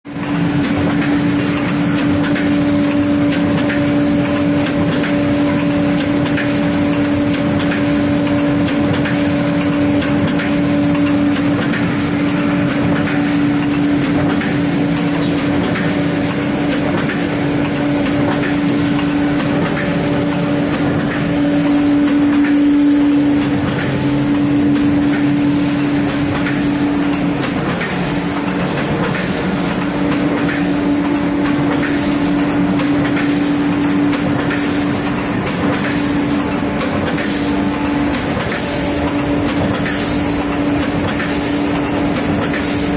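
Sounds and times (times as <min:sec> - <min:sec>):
hydraulic pump whine: 0:00.1 - 0:42.9
mechanical clattering: 0:00.1 - 0:42.9.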